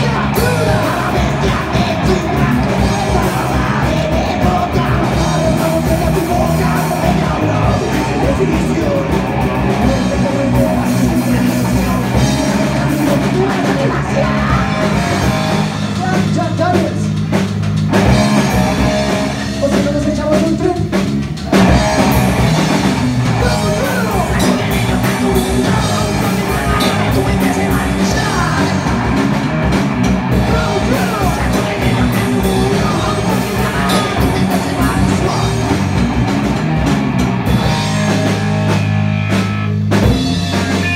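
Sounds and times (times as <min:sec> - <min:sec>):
distorted electric guitars: 0:00.0 - 0:40.9
driving drum kit: 0:00.0 - 0:40.9
rock band playing live: 0:00.0 - 0:40.9.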